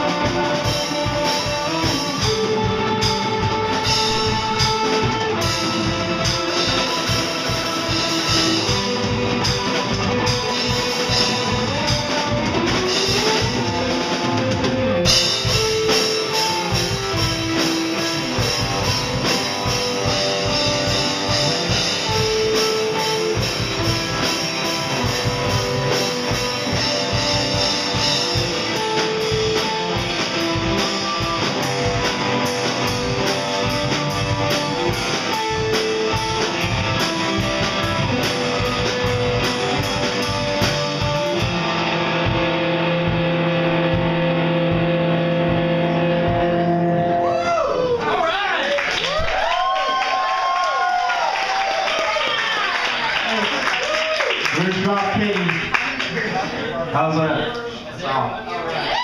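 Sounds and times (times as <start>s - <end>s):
guitar note sliding up: 0.0s - 47.3s
live rock band playing: 0.0s - 48.0s.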